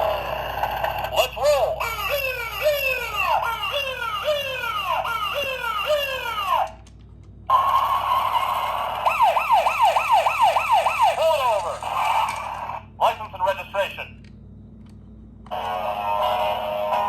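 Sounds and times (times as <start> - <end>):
electronic toy police siren: 0.0 - 6.9, 7.5 - 12.8, 15.5 - 17.0.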